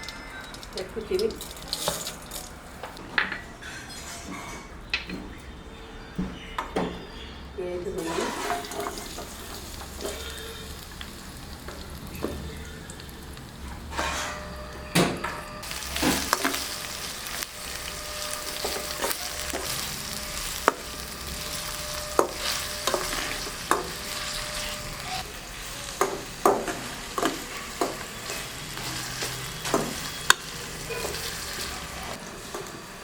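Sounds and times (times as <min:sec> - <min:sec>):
onions sizzling in hot oil: 0:00.0 - 0:02.5, 0:08.0 - 0:14.7, 0:15.6 - 0:33.0.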